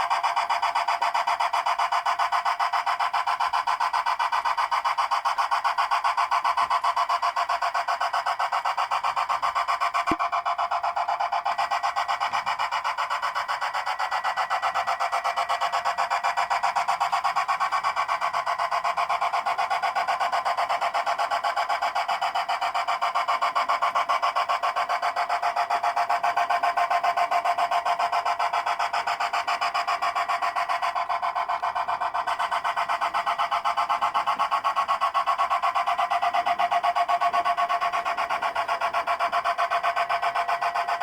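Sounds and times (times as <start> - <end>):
model train rasping rhythm: 0.0 - 41.0.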